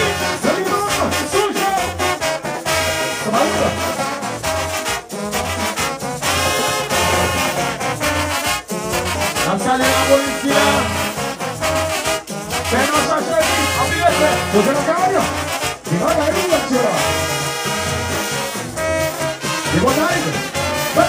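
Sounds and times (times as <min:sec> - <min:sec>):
horns blaring: 0:00.0 - 0:21.0
steady low drum beat: 0:00.0 - 0:21.0.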